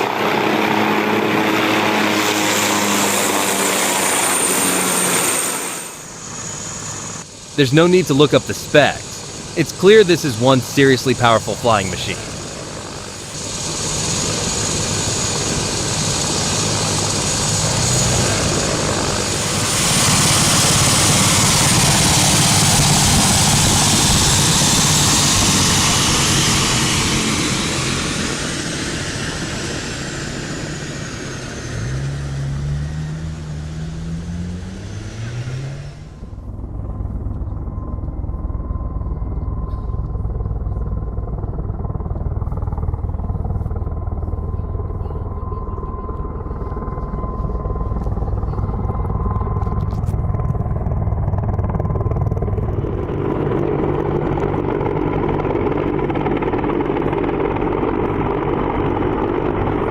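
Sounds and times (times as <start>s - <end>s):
helicopter rotor and turbine noise: 0.0s - 59.9s.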